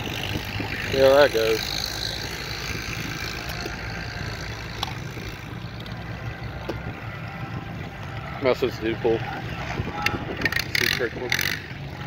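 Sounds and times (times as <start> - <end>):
distant tractor engine drone: 0.0 - 12.0.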